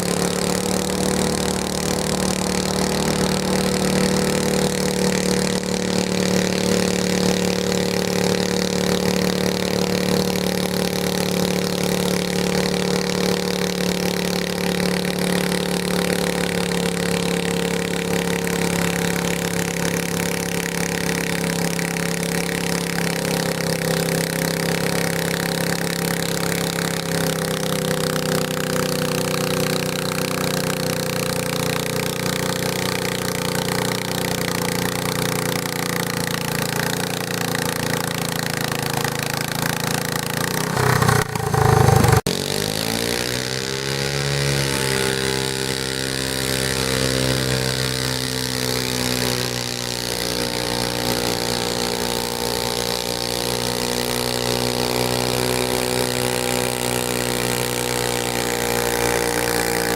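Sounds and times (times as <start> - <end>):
garden tractor engine running: 0.0 - 59.9.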